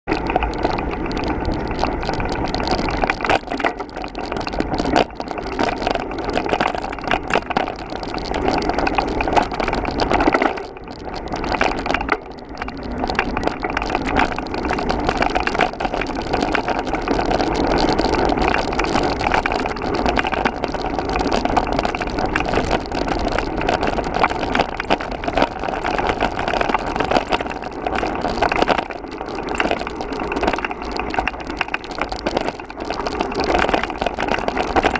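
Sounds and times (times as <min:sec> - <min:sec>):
bike rattling over bumps: 0:00.1 - 0:34.9.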